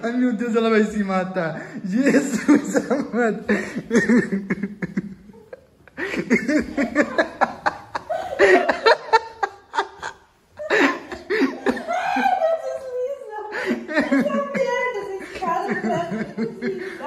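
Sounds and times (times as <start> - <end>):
hearty laughter: 2.0 - 12.8, 13.5 - 17.0.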